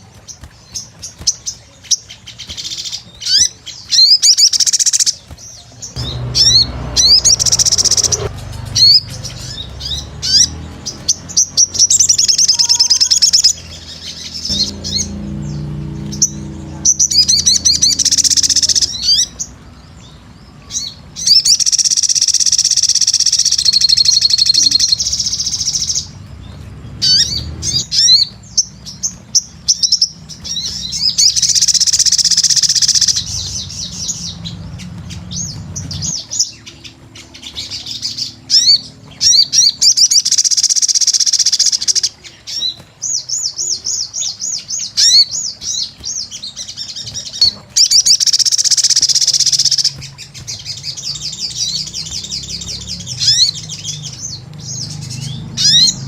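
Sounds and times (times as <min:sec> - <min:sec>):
sunbird chirping and trilling: 0:00.0 - 0:56.0.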